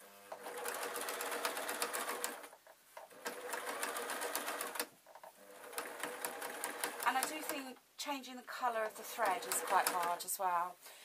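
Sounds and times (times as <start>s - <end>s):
sewing machine stitching: 0.3s - 7.7s, 8.8s - 10.3s.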